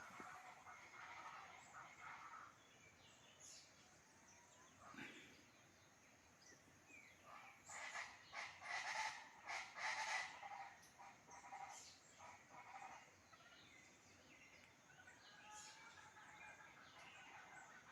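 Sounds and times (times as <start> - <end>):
wild birds calling: 0.0 - 17.9.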